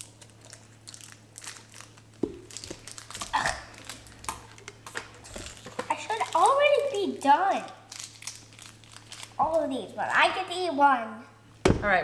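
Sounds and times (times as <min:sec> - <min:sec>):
candy wrappers crinkling: 0:00.0 - 0:10.2.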